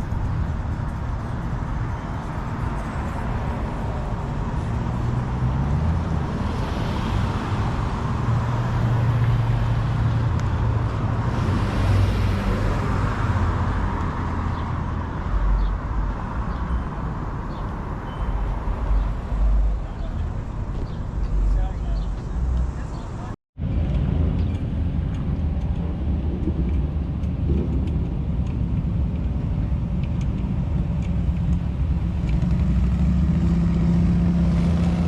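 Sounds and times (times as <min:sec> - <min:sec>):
traffic noise: 0:00.0 - 0:35.0
vehicle engine humming: 0:00.0 - 0:35.0.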